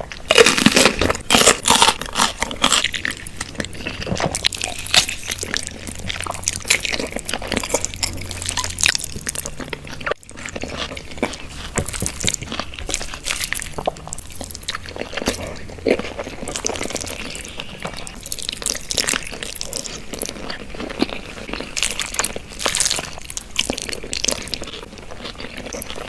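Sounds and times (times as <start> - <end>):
crunching fried chicken: 0.0 - 26.0.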